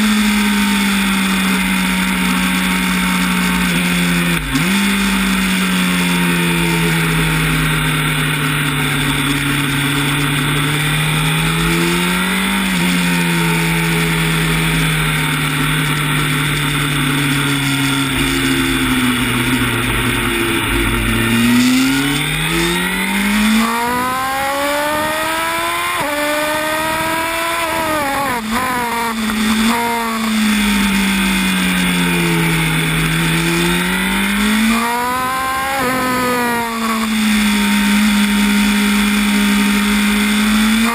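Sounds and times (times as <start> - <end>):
motorcycle engine at racing speed: 0.0 - 40.9.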